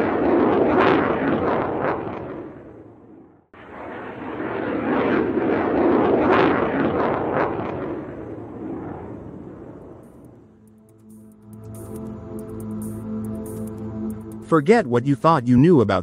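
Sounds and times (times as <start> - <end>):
jet aircraft flyby: 0.0 - 14.9.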